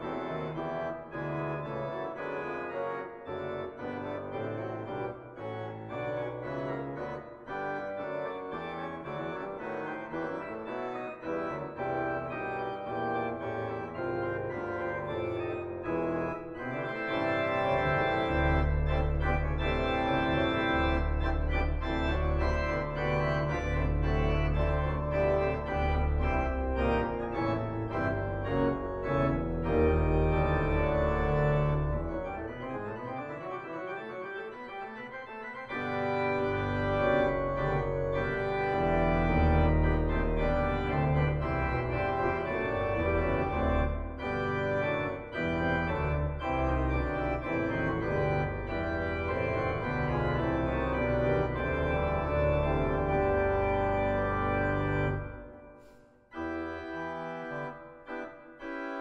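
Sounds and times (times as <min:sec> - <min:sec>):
deep organ pedal bass: 0:00.0 - 0:55.7, 0:56.4 - 0:59.0
organ chords: 0:00.0 - 0:59.0.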